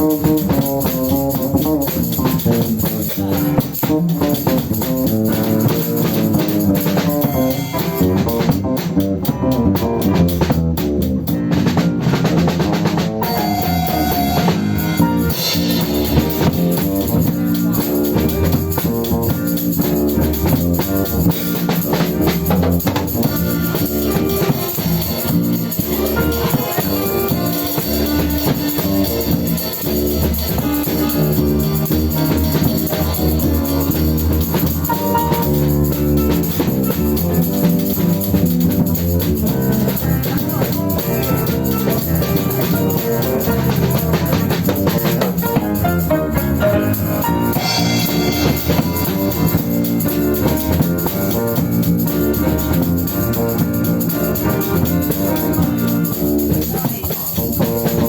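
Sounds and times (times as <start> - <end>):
music with drums and guitar: 0.0 - 58.0.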